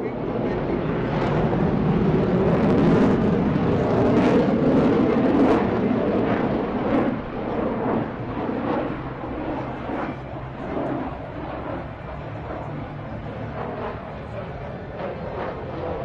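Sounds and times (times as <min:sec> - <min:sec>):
jet engine rushing past: 0:00.0 - 0:16.0.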